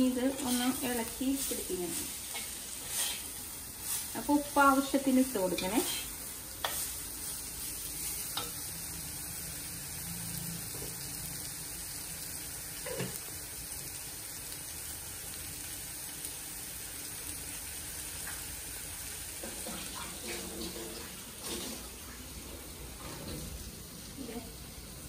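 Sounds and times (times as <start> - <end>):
beetroot sizzling in a clay pot: 0.0 - 25.0.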